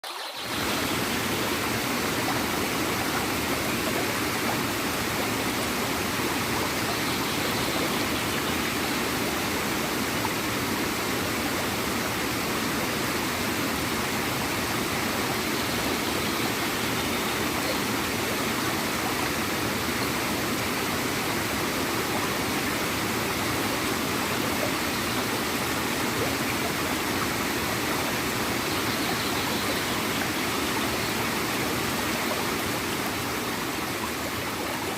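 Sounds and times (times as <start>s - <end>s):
small waterfall splashing: 0.0s - 34.9s.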